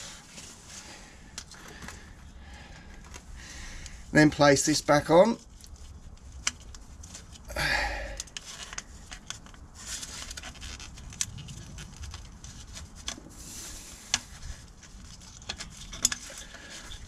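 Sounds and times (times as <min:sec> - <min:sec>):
small clicks and rustles: 0:00.0 - 0:07.5, 0:08.1 - 0:17.0
scraping rustle: 0:00.0 - 0:17.0.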